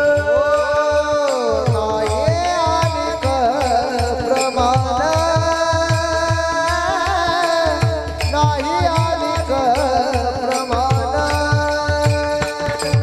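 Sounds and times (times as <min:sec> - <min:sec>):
hand drum beat: 0:00.0 - 0:13.0.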